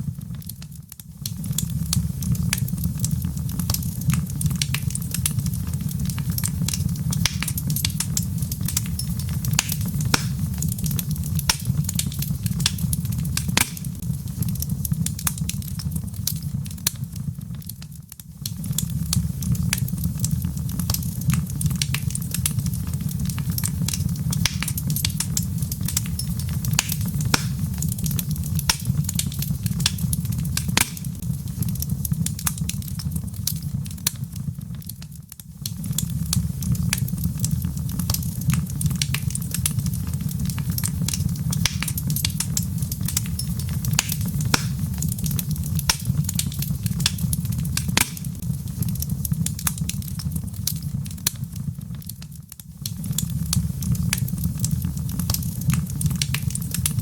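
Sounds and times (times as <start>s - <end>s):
log fire crackling: 0.0s - 57.0s.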